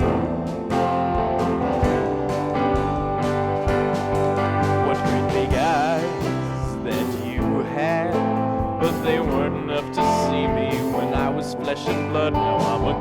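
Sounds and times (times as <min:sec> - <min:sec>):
bass: 0:00.0 - 0:13.0
drums: 0:00.0 - 0:13.0
piano: 0:00.0 - 0:13.0
trombone: 0:00.0 - 0:13.0.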